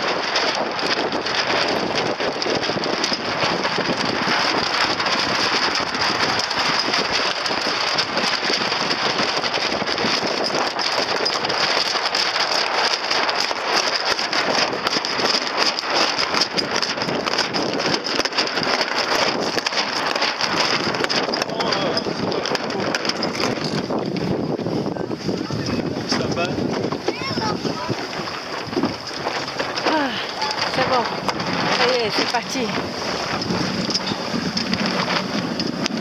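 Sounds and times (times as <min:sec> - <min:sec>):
water splashing against boat hull: 0:00.0 - 0:36.0.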